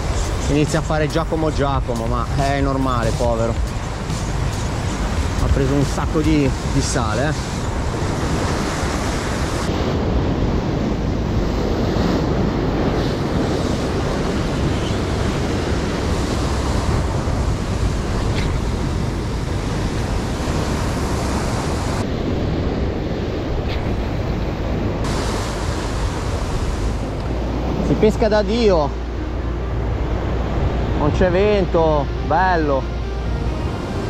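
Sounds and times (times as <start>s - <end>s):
wind buffeting microphone: 0.0s - 31.8s
sea surf breaking on rocks: 0.0s - 34.0s.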